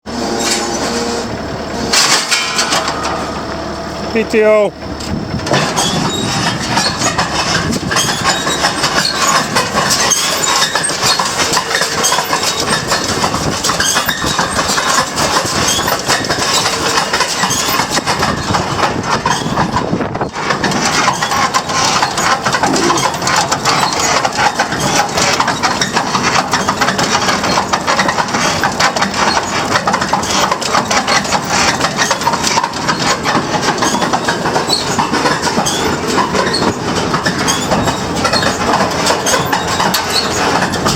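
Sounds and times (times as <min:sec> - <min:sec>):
baler mechanical clatter: 0:00.1 - 0:40.9
tractor engine running: 0:00.1 - 0:40.9.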